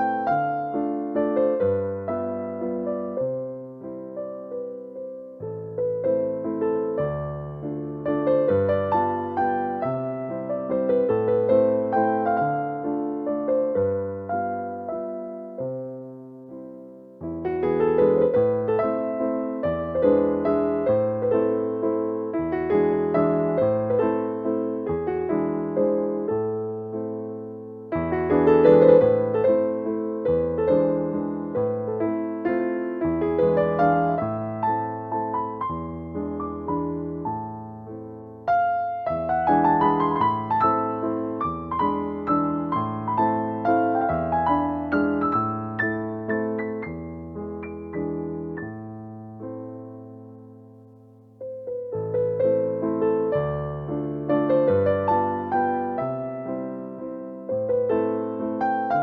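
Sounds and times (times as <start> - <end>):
electric piano melody: 0.0 - 59.0.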